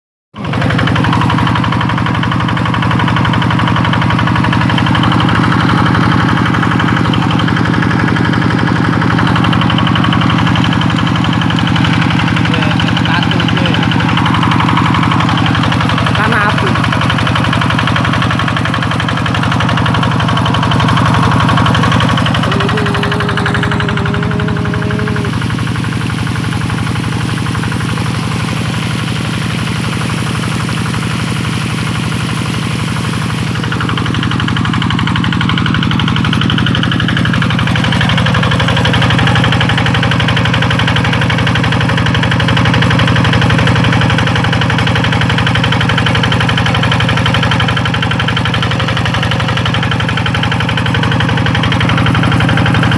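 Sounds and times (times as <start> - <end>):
diesel engine running: 0.3 - 52.9.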